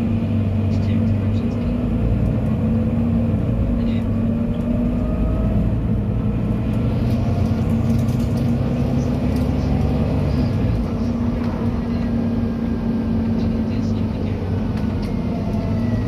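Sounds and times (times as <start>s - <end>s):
bus engine drone: 0.0s - 16.0s
road noise: 0.0s - 16.0s.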